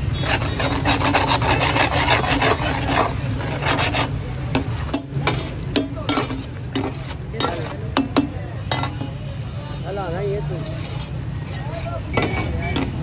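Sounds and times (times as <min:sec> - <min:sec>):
metal spatula scraping griddle: 0:00.0 - 0:09.1, 0:10.4 - 0:13.0.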